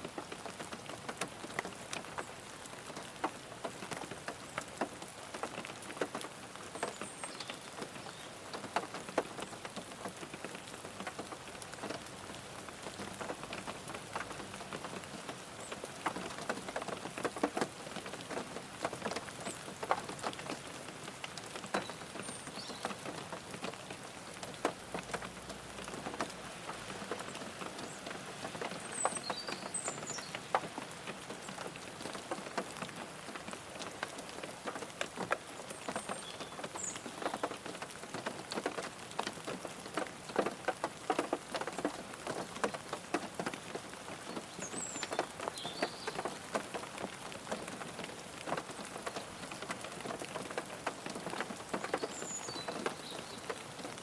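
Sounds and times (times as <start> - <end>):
rain falling on a car: 0.0 - 54.0.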